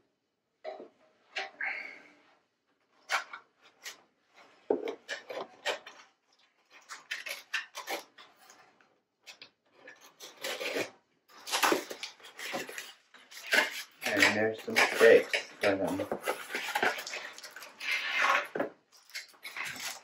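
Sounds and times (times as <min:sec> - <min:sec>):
plastic statue parts scraping: 0:03.0 - 0:20.0.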